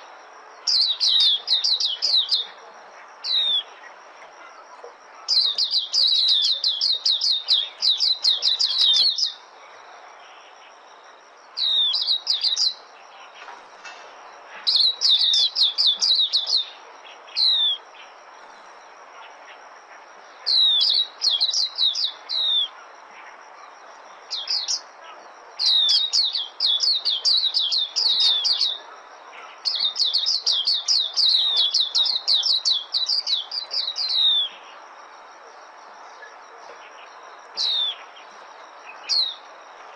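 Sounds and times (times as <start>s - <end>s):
bird twittering song: 0.0s - 39.9s
faint background hiss: 0.0s - 39.9s.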